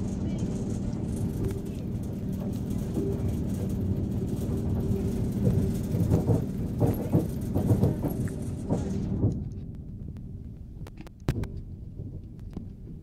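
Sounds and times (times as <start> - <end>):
irregular knocks and clunks: 0.0 - 13.0
train rumbling: 0.0 - 13.0.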